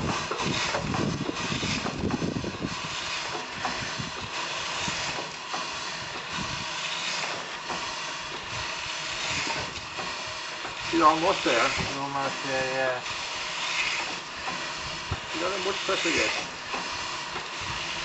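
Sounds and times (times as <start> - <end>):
steam engine hissing: 0.0 - 18.0
steam engine puffing: 0.0 - 18.0.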